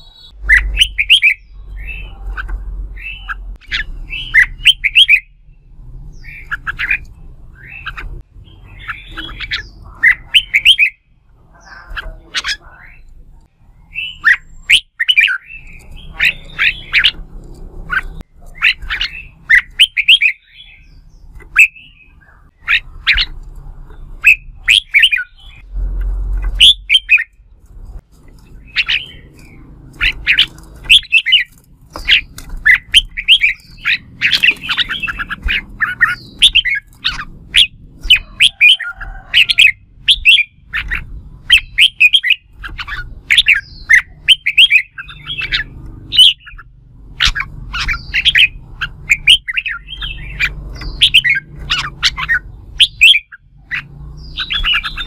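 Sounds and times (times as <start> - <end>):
bird chirping phrases: 0.0 - 55.0.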